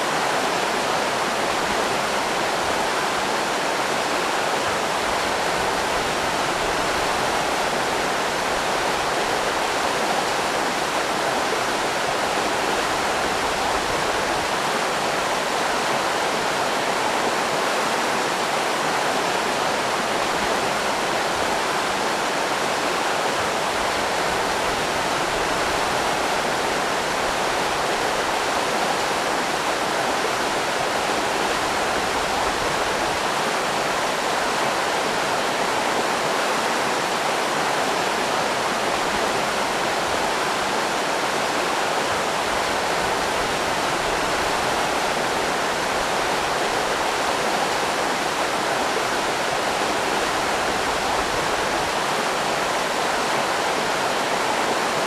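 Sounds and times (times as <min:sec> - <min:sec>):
river rapids roaring: 0:00.0 - 0:55.0.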